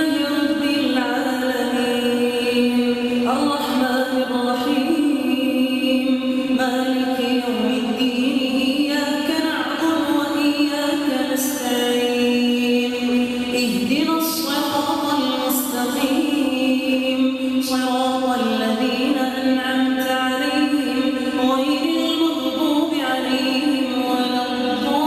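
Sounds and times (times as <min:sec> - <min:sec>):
person chanting recitation: 0:00.0 - 0:25.0.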